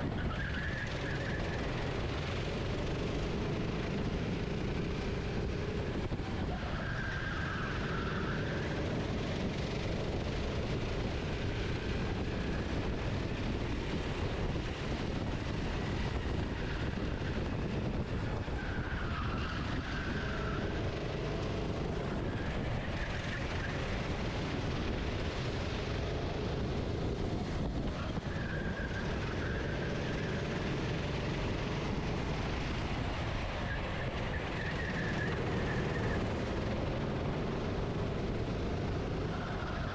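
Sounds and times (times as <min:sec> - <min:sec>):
racing kart engine revving: 0:00.3 - 0:39.9.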